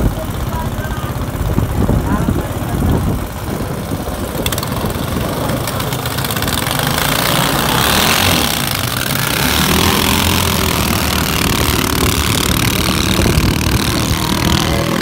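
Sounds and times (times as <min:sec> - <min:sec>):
boat engines running hard: 0:00.0 - 0:15.0.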